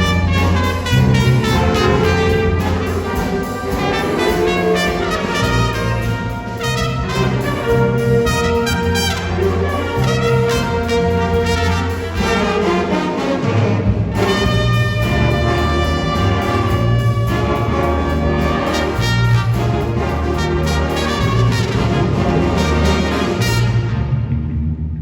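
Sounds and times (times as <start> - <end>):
brass instrumental music: 0.0 - 24.6.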